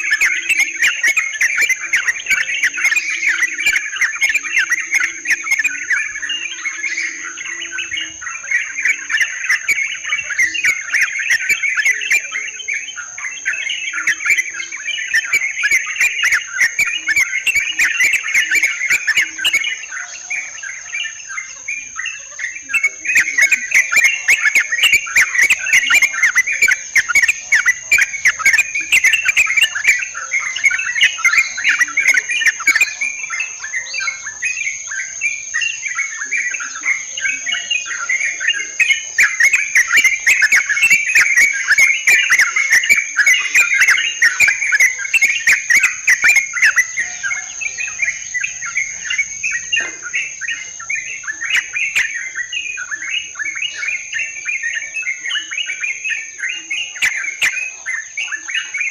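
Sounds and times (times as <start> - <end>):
bulbuls chattering: 0.0 - 58.9.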